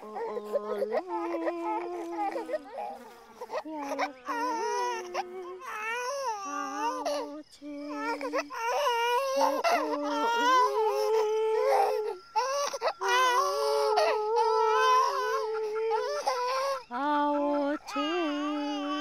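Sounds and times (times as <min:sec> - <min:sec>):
infant crying: 0:00.0 - 0:16.9, 0:17.8 - 0:19.0.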